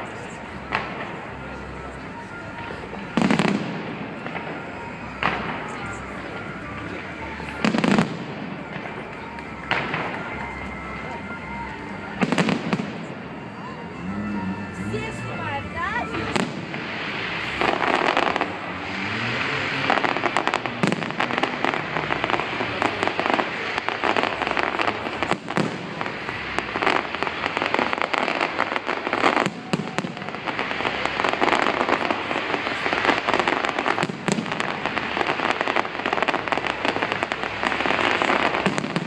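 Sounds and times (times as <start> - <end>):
fireworks bangs: 0.0 - 39.0
fireworks crackling: 0.0 - 39.0.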